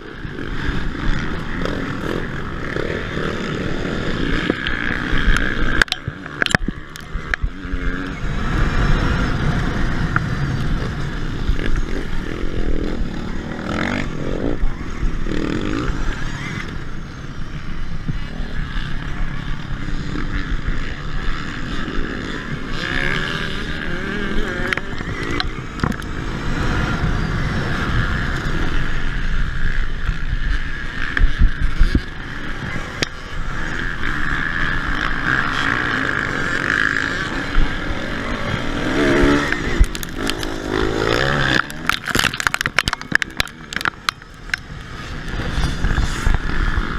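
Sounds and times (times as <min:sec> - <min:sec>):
dirt bike engines racing: 0:00.0 - 0:46.9
wind rumble: 0:00.0 - 0:46.9.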